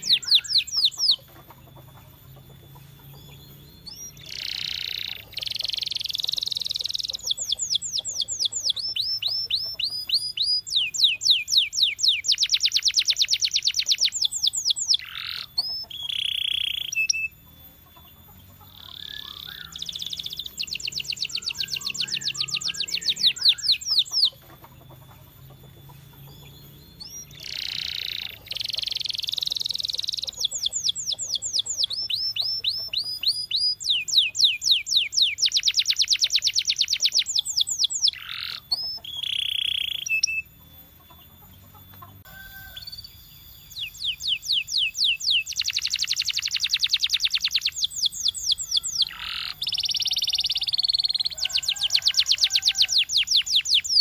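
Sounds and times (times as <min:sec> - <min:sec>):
canary singing rapid trills: 0:00.0 - 0:54.0.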